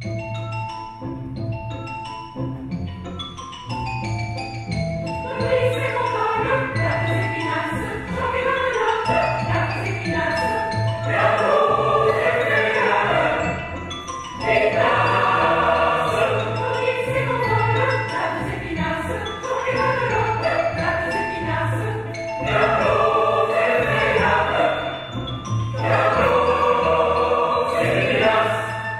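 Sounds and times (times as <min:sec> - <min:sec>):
choir singing with orchestra: 0:05.3 - 0:28.9.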